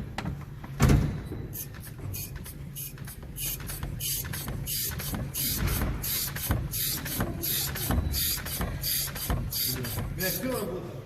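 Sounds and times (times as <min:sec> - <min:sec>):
compressed air hisses: 0:01.5 - 0:10.6.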